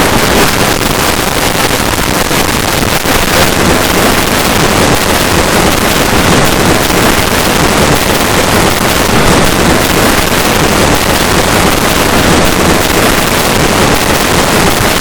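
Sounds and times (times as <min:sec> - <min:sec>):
harsh distorted static noise: 0:00.0 - 0:15.0.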